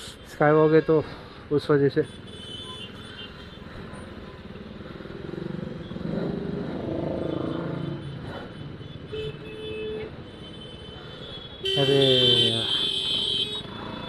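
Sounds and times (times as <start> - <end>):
other vehicle engines: 0.0 - 14.0.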